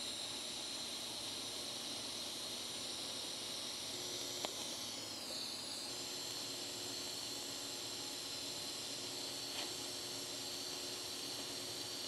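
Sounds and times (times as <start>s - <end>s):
welding arc hissing: 0.0s - 12.0s.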